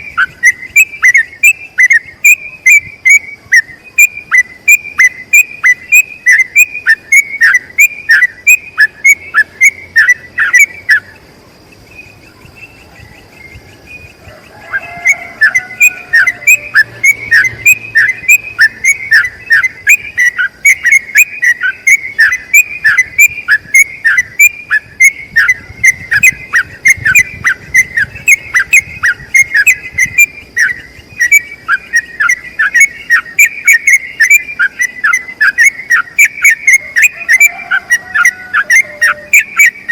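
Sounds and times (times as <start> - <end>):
bulbul singing whistled notes: 0.0 - 39.9
faint high whine: 0.0 - 39.9.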